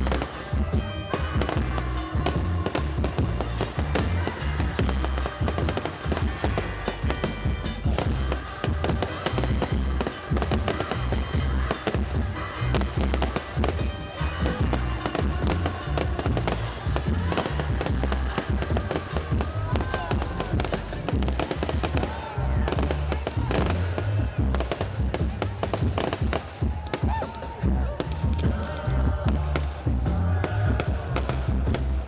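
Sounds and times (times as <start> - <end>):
background music: 0.0 - 32.0
fireworks banging and crackling: 0.0 - 32.0.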